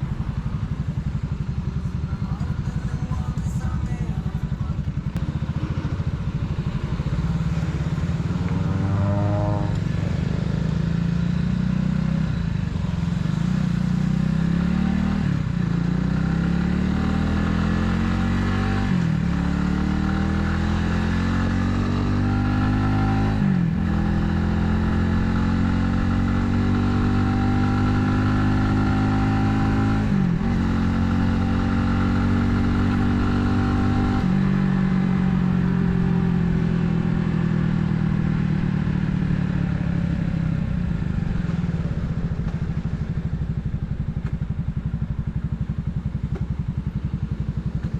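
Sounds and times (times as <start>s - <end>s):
motorcycle engine accelerating through gears: 0.0s - 47.9s.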